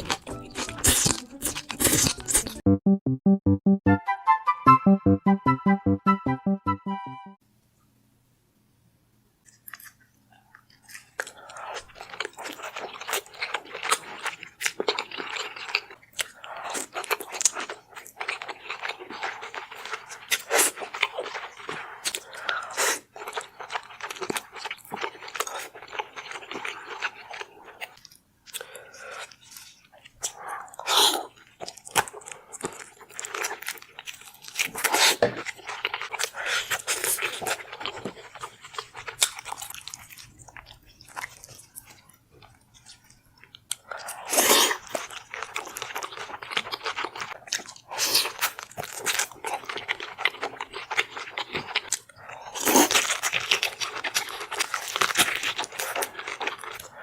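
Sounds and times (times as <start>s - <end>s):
crunching and chewing food: 0.0s - 2.6s, 9.4s - 57.0s.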